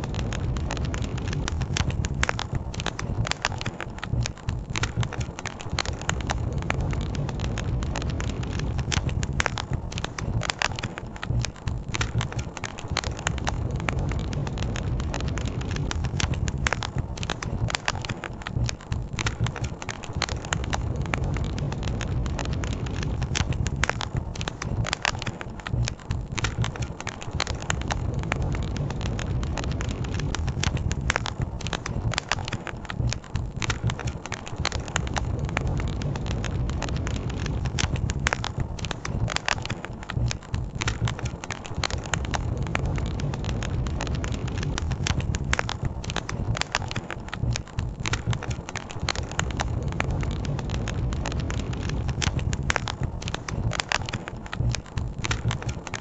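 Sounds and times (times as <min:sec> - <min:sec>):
low rumble: 0:00.0 - 0:55.7
campfire crackling and popping: 0:00.0 - 0:56.0.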